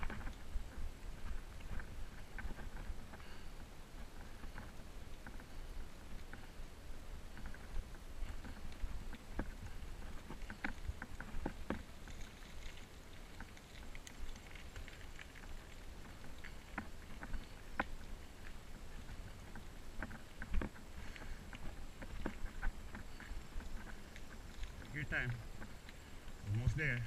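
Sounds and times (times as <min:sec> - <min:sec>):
bicycle rumbling on concrete: 0:00.0 - 0:27.0.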